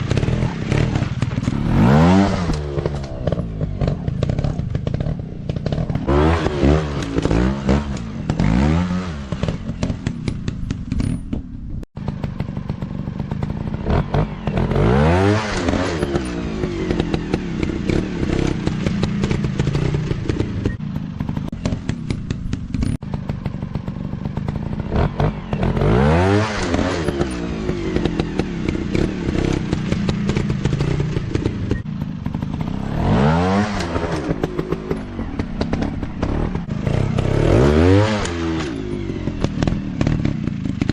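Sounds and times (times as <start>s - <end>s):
dirt bike engine revving: 0.0s - 11.2s, 12.0s - 40.9s.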